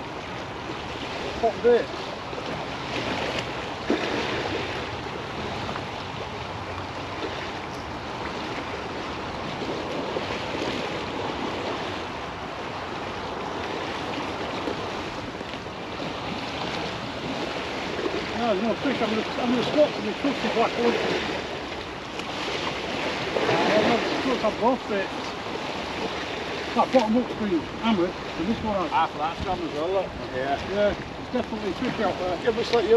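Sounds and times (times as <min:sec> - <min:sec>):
steady wind: 0:00.0 - 0:32.9
waves washing against embankment: 0:00.0 - 0:32.9.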